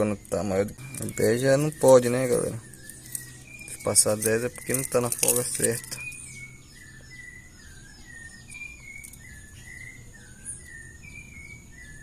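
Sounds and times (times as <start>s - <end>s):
faint high-pitched whine: 0.0s - 12.0s
songbird chirping: 0.0s - 12.0s.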